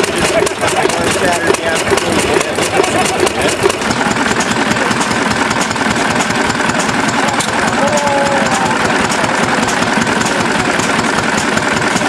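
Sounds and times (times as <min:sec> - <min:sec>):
engine mechanical clatter: 0:00.0 - 0:12.0.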